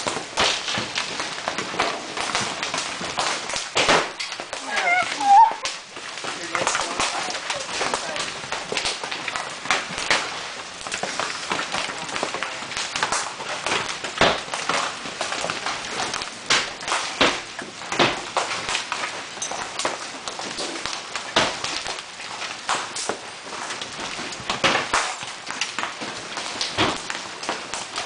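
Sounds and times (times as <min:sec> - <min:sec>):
hailstones knocking on hard surfaces: 0:00.0 - 0:28.0
hiss of falling hail and rain: 0:00.0 - 0:28.0.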